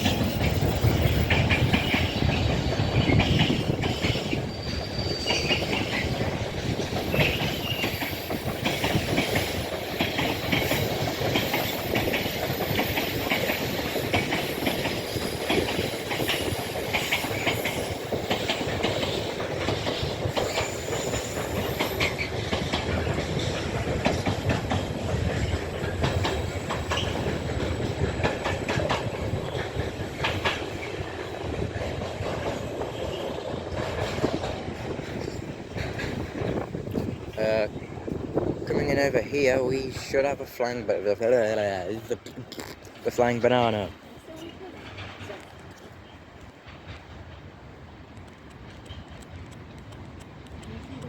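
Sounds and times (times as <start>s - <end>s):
train wheels clattering over rail joints: 0.0s - 51.0s.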